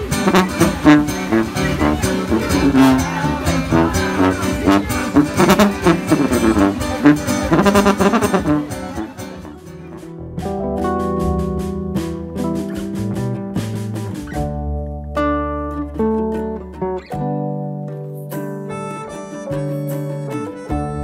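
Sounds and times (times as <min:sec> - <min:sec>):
sousaphone bass line: 0:00.0 - 0:17.3
live band music: 0:00.0 - 0:21.0
strummed guitar: 0:00.0 - 0:21.0.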